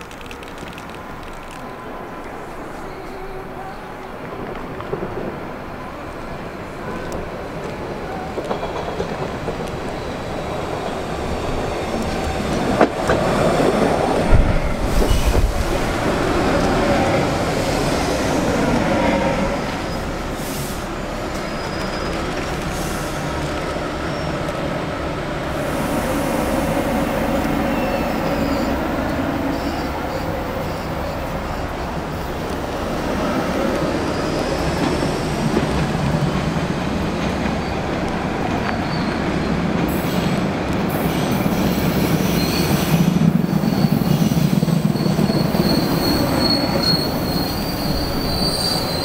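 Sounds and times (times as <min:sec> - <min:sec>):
train wheel-on-rail rumble: 0:00.0 - 0:49.0.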